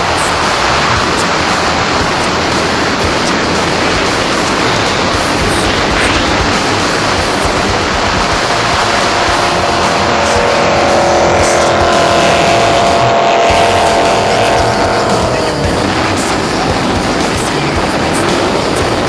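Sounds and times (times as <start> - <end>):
jet boat engine at high revs: 0.0 - 19.0
rushing water and spray: 0.0 - 19.0.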